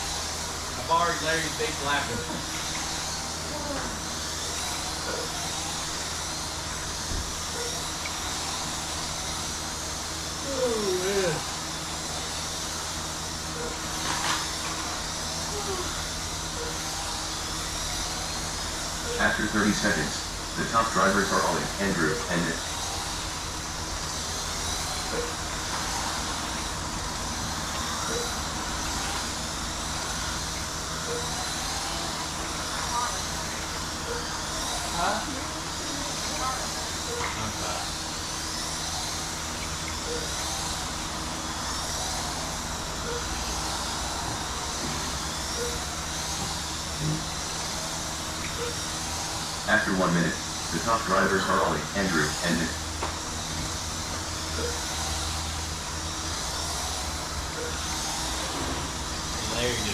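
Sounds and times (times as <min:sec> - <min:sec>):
rc truck motor whines: 0:00.0 - 0:59.9.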